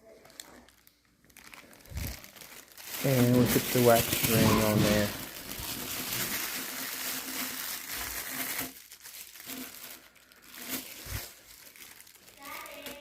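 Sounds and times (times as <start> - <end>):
plastic crinkling and rustling: 0.0 - 13.0.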